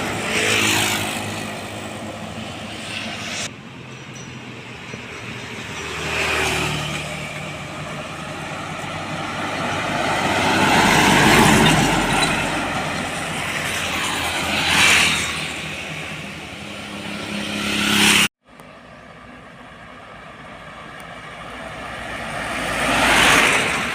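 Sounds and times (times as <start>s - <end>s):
road vehicles passing: 0.0s - 23.9s.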